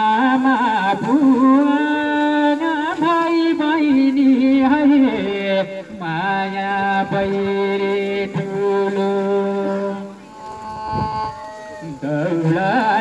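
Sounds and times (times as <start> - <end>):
person singing long notes: 0.0 - 13.0.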